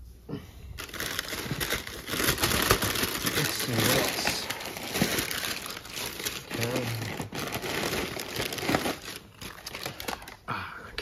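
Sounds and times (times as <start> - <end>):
packing paper crumpling: 0.8 - 10.5.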